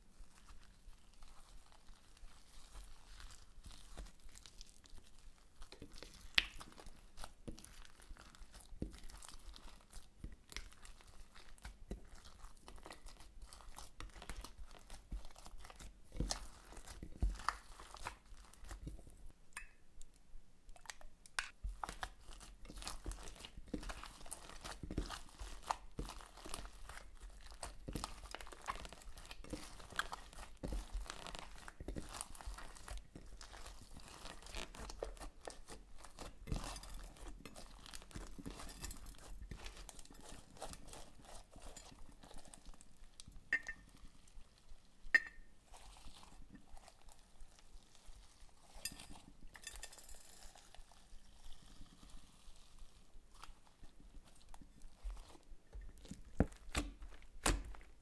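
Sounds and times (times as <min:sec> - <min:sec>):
slime squishing and crackling: 0:00.2 - 0:19.3, 0:20.7 - 0:58.0.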